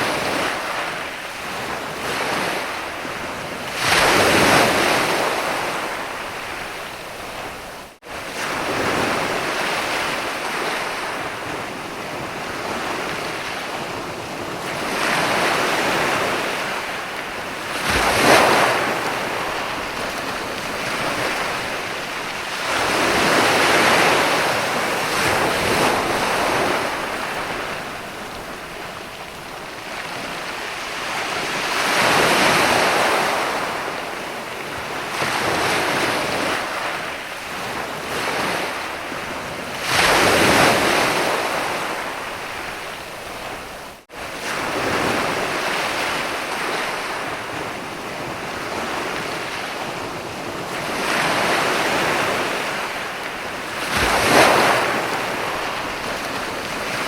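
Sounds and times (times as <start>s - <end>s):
ocean waves crashing on beach: 0.0s - 57.0s.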